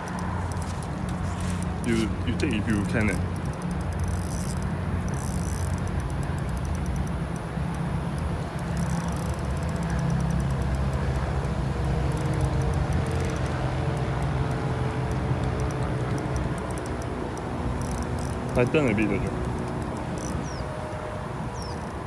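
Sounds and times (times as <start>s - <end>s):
outdoor background rumble: 0.0s - 22.0s.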